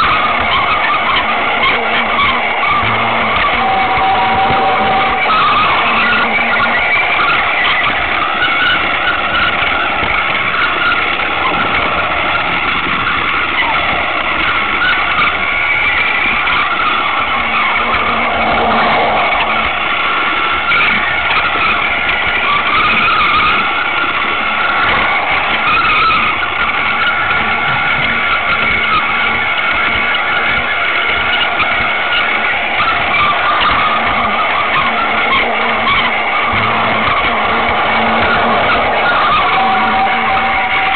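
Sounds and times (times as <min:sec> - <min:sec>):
plastic wheels rattling on track: 0:00.0 - 0:40.9
toy train motor whining: 0:00.0 - 0:40.9.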